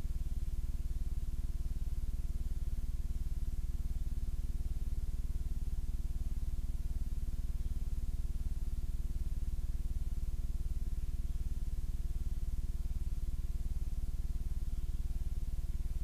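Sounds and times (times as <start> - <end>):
low electrical hum and buzz: 0.0 - 16.0.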